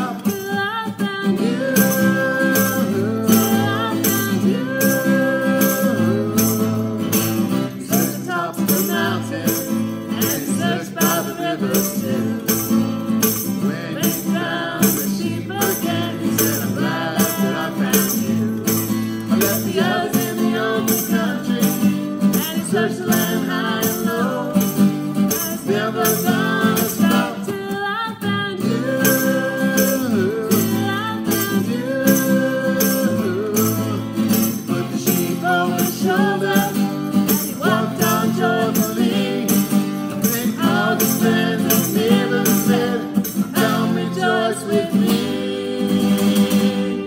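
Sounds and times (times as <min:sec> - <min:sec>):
strummed acoustic guitar: 0:00.0 - 0:47.0
woman singing: 0:00.0 - 0:47.0
high rattle on the beat: 0:01.4 - 0:27.6, 0:29.0 - 0:47.0.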